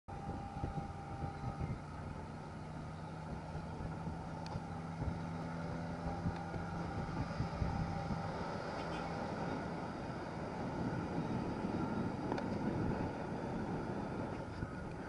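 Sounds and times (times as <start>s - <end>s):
engine drone: 0.1s - 15.0s
road noise: 0.1s - 15.0s
wind noise: 0.1s - 15.0s.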